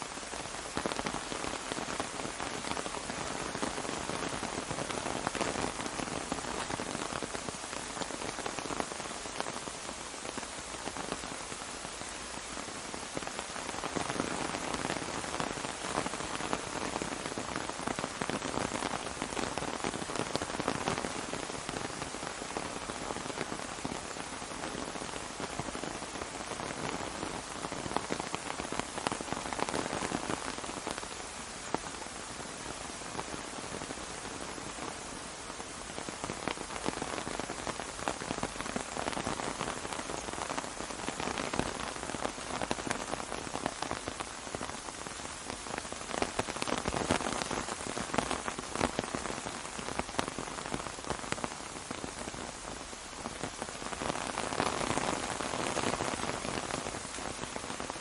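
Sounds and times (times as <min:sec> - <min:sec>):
rain pattering on umbrella: 0:00.0 - 0:58.0.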